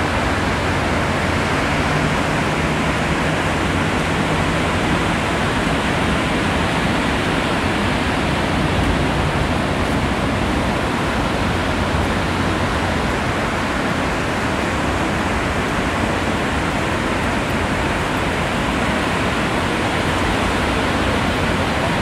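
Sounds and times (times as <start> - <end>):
ocean surf roar: 0.0 - 22.0.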